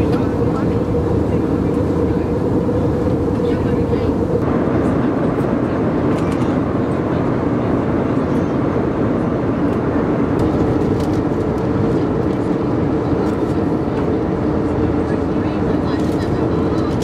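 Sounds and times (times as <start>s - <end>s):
airplane cabin engine drone: 0.0s - 17.0s.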